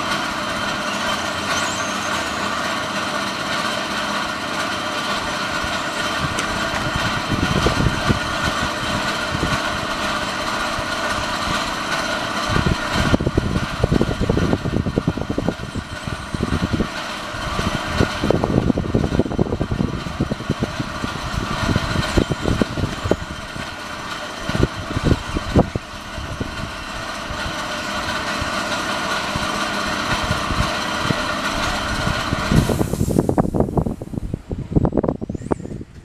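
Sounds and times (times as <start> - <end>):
wind buffeting microphone: 5.2 - 36.0.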